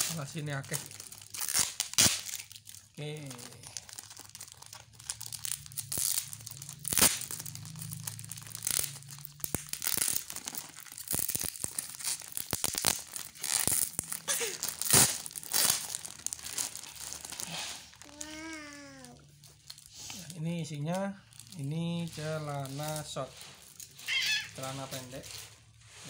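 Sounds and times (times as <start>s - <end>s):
plastic wrap crinkling and tearing: 0.0s - 26.0s.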